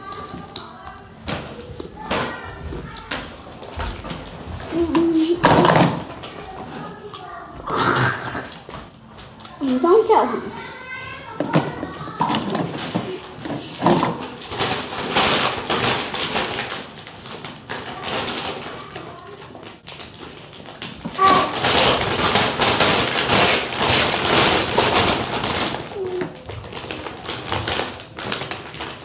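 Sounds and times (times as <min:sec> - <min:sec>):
popcorn crunching: 0:00.0 - 0:29.0.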